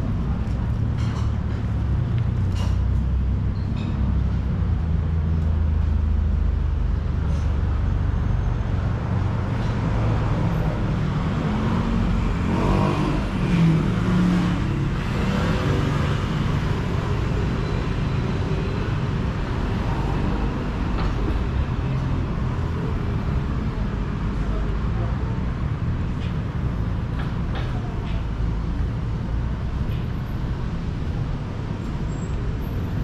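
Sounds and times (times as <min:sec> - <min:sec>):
car engines passing and idling: 0:00.0 - 0:33.0.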